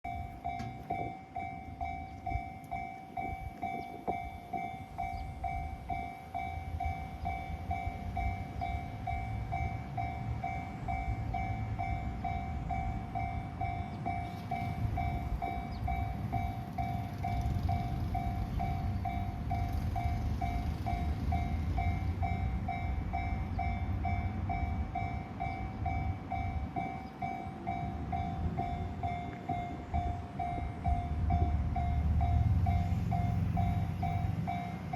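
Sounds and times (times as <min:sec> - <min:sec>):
freight train rumbling: 0:00.0 - 0:34.9
level-crossing bell dinging: 0:00.1 - 0:34.9.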